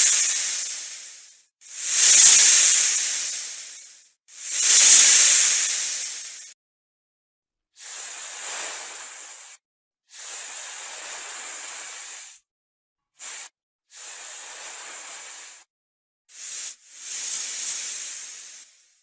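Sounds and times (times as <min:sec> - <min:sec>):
snake hissing: 0:00.0 - 0:06.6, 0:07.8 - 0:12.3, 0:13.2 - 0:15.6, 0:16.3 - 0:19.0.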